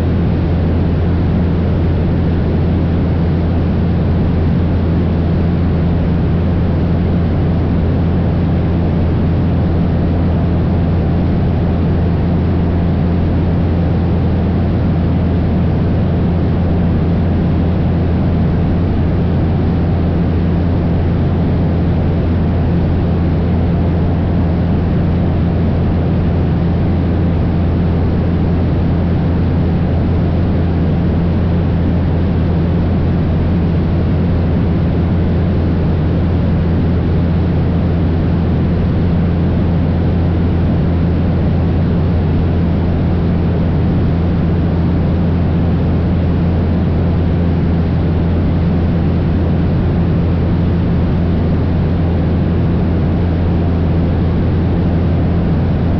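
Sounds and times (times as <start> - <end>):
propeller plane engine droning: 0.0 - 55.9.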